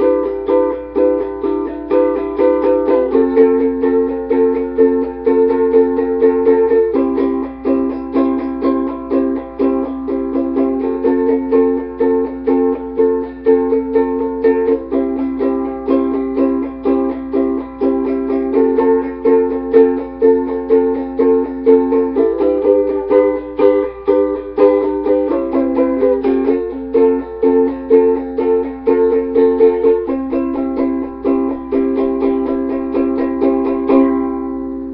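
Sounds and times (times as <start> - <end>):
ukulele strumming chords: 0.0 - 34.9.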